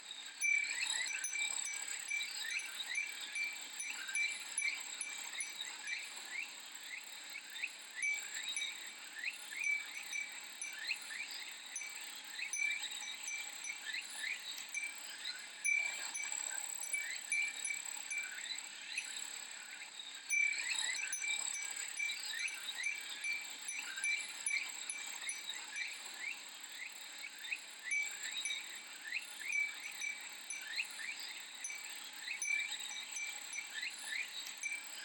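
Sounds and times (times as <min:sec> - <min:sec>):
cicadas droning: 0:00.1 - 0:35.0
glass wind chime tinkling: 0:00.1 - 0:35.0.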